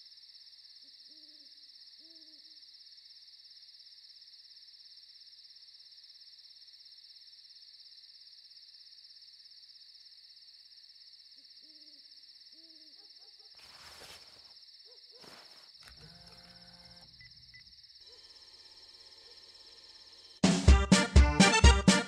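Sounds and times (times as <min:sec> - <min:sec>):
high chirring insects: 0:00.0 - 0:20.4.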